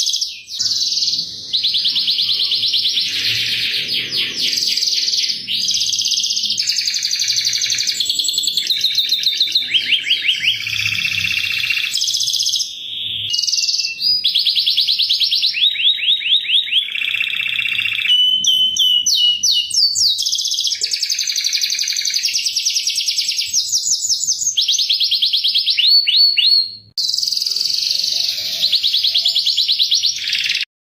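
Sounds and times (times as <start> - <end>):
canary singing fast trills: 0.0 - 30.7.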